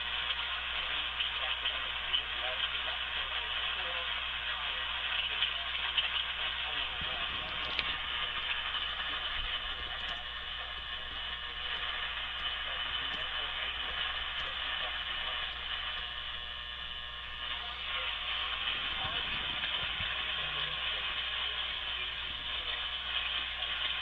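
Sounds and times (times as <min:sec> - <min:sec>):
faint indistinct radio audio: 0:00.0 - 0:24.0
radio static hiss: 0:00.0 - 0:24.0.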